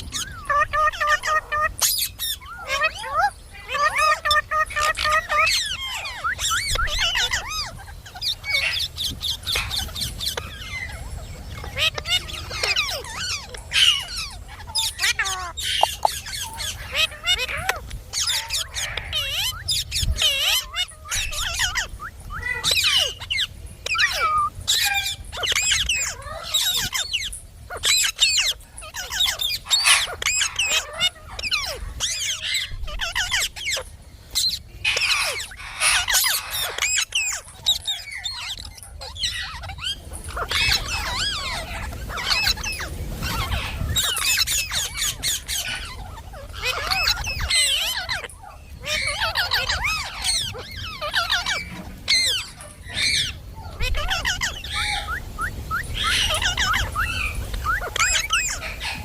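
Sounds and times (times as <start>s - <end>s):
parrot squawking and chattering: 0.0s - 59.0s.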